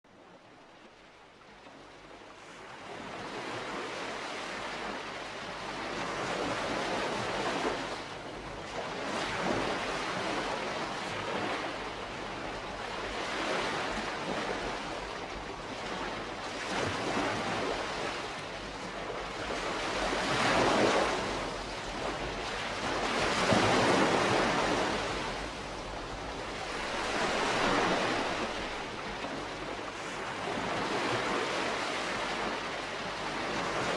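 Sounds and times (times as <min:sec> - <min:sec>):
gentle waves on shore: 0:00.1 - 0:33.9.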